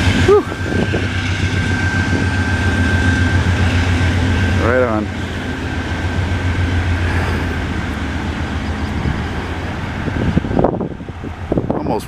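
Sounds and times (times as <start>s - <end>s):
low drone: 0.0s - 11.4s
steel wheels rumbling on rail: 0.0s - 12.0s.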